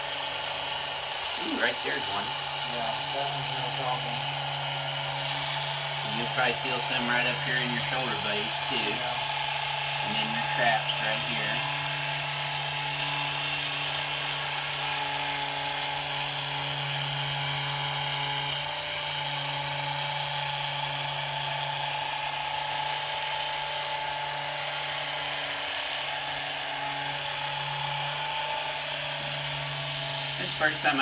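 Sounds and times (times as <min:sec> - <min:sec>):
vibration device buzzing: 0:00.0 - 0:31.0.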